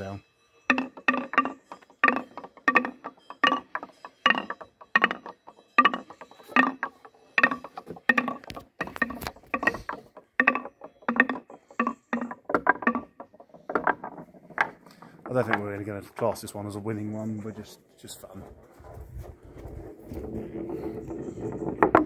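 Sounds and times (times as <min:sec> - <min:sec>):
balls clattering down wooden marble run: 0:00.0 - 0:18.6, 0:19.8 - 0:22.0.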